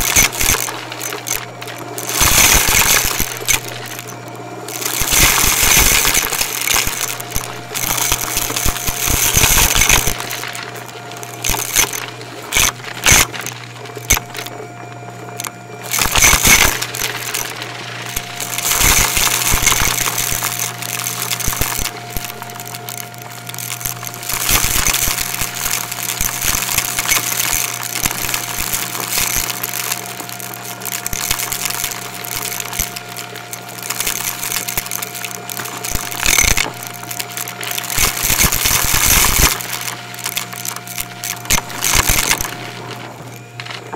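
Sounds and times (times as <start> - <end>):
debris rattling through vacuum: 0.0 - 43.9
vacuum cleaner motor hum: 0.0 - 43.9.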